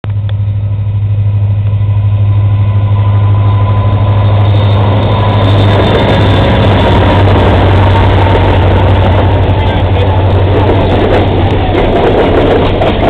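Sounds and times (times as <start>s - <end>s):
diesel locomotive engine humming: 0.0s - 13.0s
train wheels rushing on rails: 0.4s - 13.0s.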